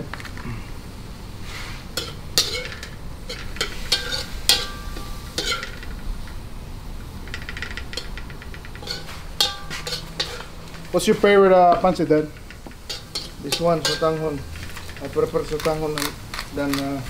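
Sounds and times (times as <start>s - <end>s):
food sizzling: 0.0s - 17.0s
metal spoon scraping a wok: 1.4s - 6.4s, 7.2s - 16.8s.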